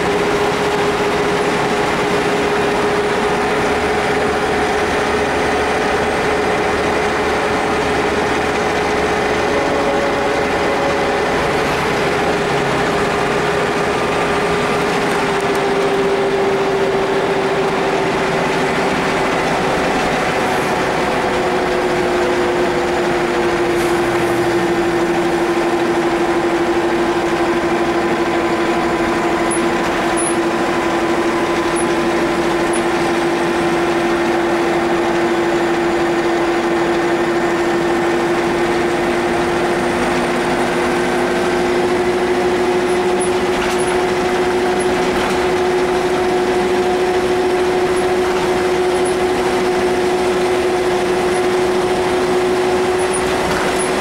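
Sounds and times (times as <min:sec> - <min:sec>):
bus diesel engine running: 0:00.0 - 0:54.0
road noise: 0:00.0 - 0:54.0.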